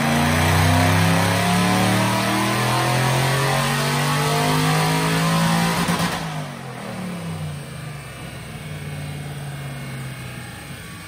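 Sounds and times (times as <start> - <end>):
engine at full throttle: 0.0 - 11.0
engine running at low revs: 0.0 - 11.0.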